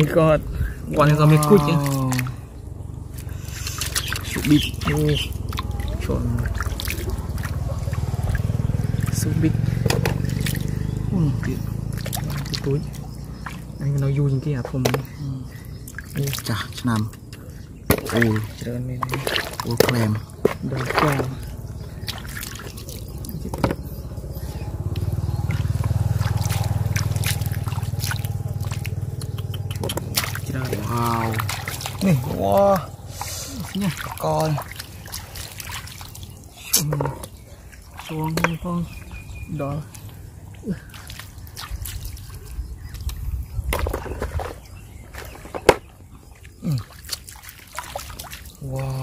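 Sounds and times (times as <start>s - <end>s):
low pulsing hum: 0.0s - 46.8s
water dribbling: 0.0s - 49.0s.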